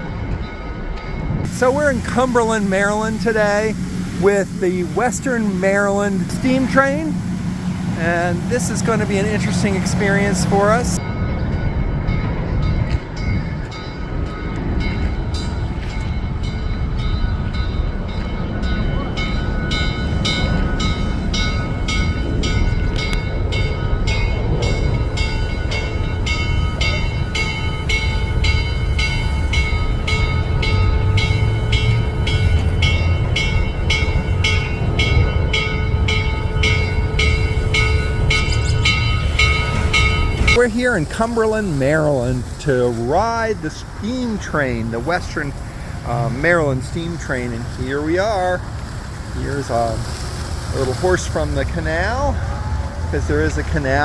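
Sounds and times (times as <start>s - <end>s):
locomotive exhaust chuffs: 0.0s - 11.4s, 12.3s - 54.0s
steam locomotive rumbling: 0.0s - 54.0s.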